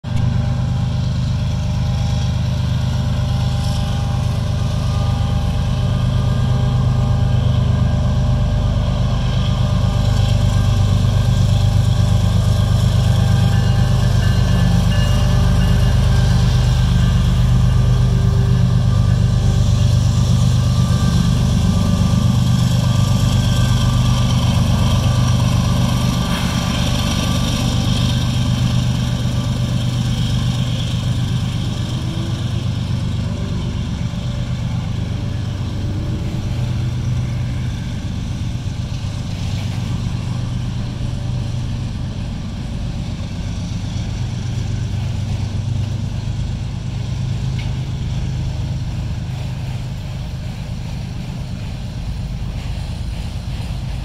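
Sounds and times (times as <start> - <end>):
diesel locomotive engines humming: 0.0 - 54.0.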